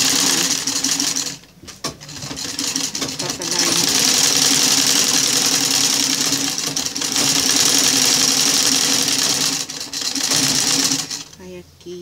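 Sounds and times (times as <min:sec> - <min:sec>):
sewing machine stitching: 0:00.0 - 0:11.4.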